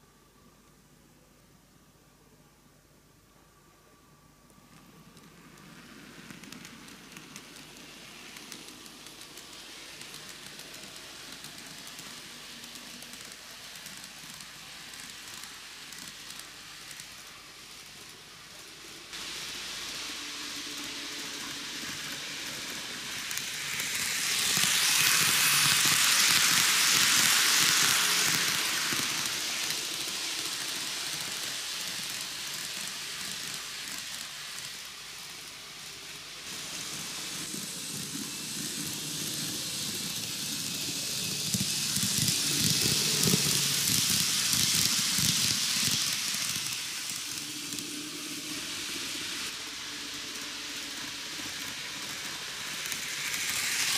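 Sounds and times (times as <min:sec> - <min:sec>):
model train wheels rattling: 0:04.8 - 0:35.9, 0:36.5 - 0:53.9.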